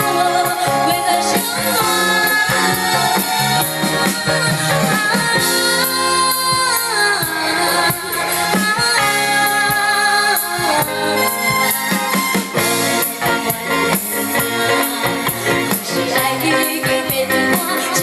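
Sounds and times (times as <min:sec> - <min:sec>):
woman singing: 0:00.0 - 0:12.1, 0:13.1 - 0:18.0
live band playing pop song: 0:00.0 - 0:18.0.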